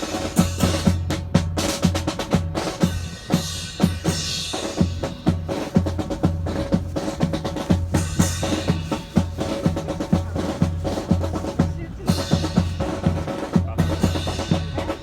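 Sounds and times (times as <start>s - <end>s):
bass drum beating: 0.0s - 15.0s
snare drum beating: 0.0s - 15.0s.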